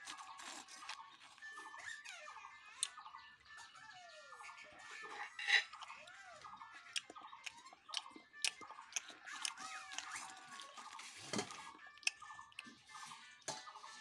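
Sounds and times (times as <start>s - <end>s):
crab being chewed: 0.0s - 3.1s, 5.3s - 13.8s.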